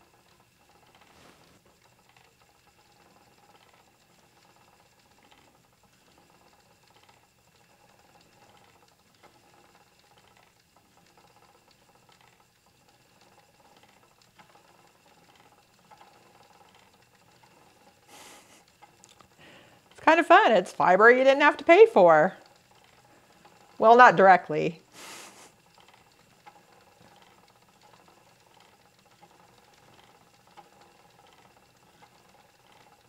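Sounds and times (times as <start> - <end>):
spinning wheel swishing: 0.0 - 33.0.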